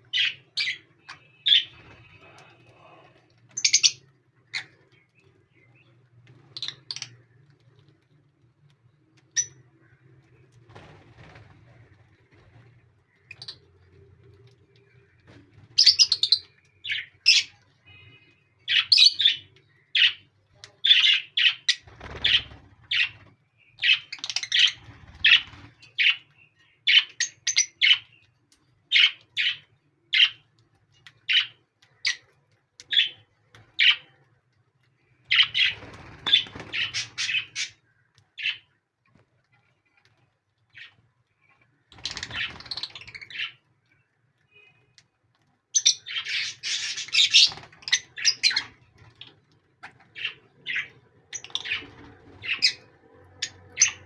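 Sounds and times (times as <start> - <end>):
lovebirds chirping: 0.0 - 38.8, 39.5 - 45.1, 45.7 - 54.0.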